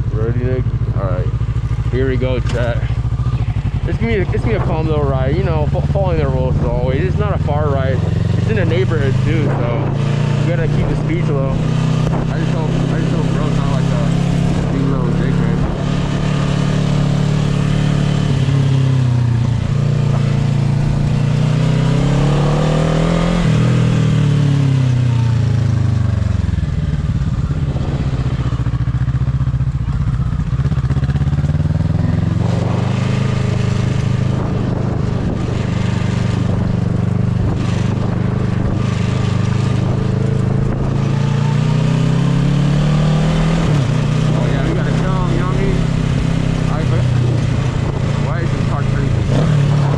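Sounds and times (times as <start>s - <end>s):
motorcycle engine revving: 0.0s - 49.9s
wind noise: 2.6s - 25.7s, 26.4s - 29.0s, 31.7s - 49.9s.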